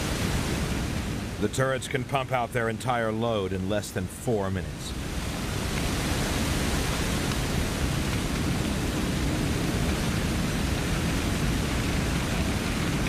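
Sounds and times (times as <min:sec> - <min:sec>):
water jet rushing hiss: 0:00.0 - 0:03.2, 0:04.0 - 0:13.0.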